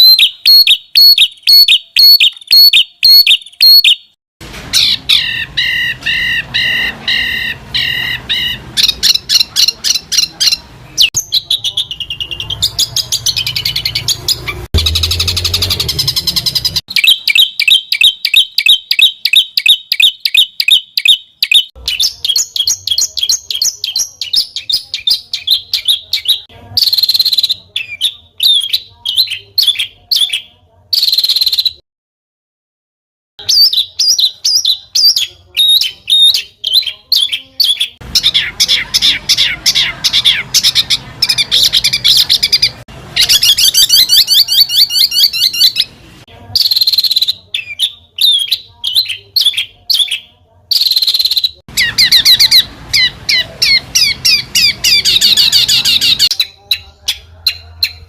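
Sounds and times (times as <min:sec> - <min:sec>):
songbirds singing trills: 0:00.0 - 0:04.2, 0:04.8 - 0:31.8, 0:33.4 - 0:45.9, 0:46.6 - 0:58.0.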